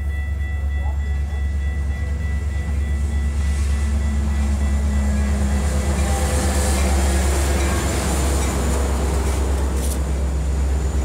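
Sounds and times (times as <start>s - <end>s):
diesel locomotive engine drone: 0.0s - 11.0s
train wheels on rails: 0.0s - 11.0s.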